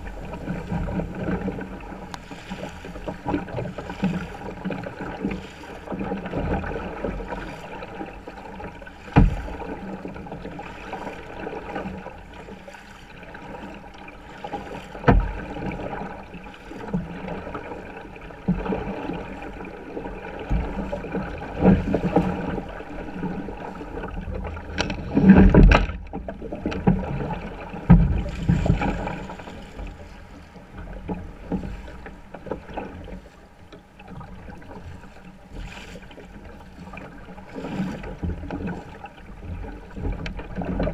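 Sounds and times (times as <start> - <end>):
paddle knocks: 0.0 - 40.9
paddle splashing water: 0.0 - 40.9.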